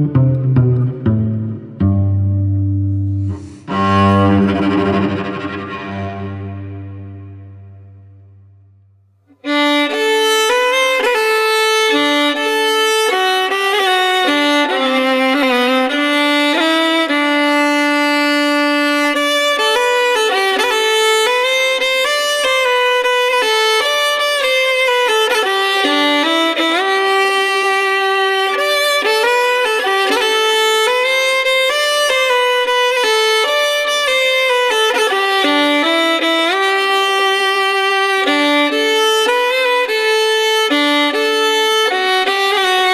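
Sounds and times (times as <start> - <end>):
solo violin melody: 0.0 - 2.2, 3.1 - 8.5, 9.3 - 42.9.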